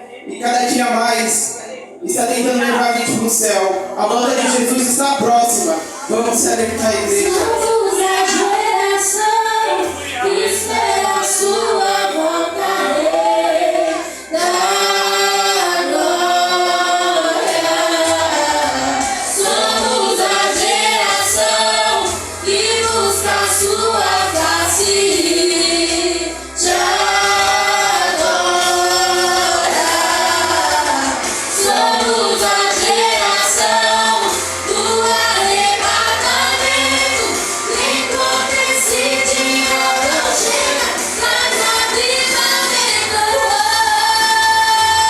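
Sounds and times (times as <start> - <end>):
vocal group singing gospel: 0.0 - 45.0.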